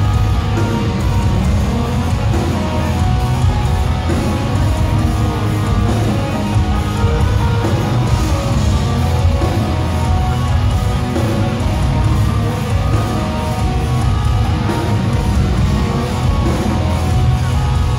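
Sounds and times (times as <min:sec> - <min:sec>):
metal band playing live: 0:00.0 - 0:17.9.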